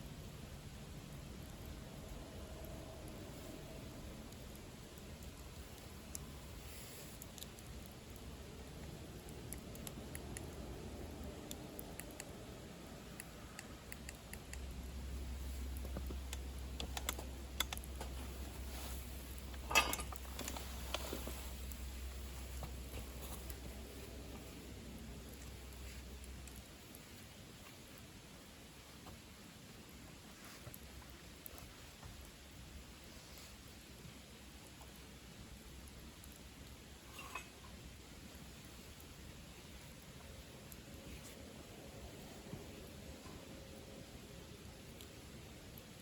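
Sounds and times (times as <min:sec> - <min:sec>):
low steady rumble: 0:00.0 - 0:46.0
wood fire crackling: 0:00.0 - 0:46.0.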